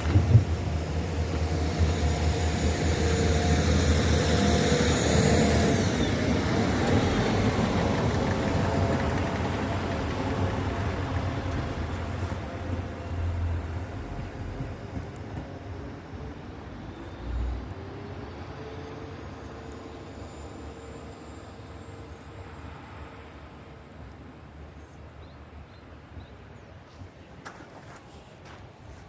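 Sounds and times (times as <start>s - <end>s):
train rumbling with whine: 0.0s - 25.7s.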